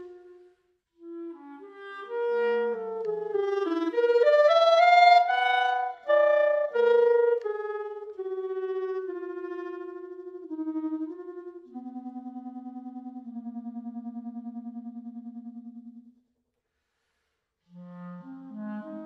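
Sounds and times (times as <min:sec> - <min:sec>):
clarinet playing: 0:00.0 - 0:14.0, 0:17.7 - 0:19.0.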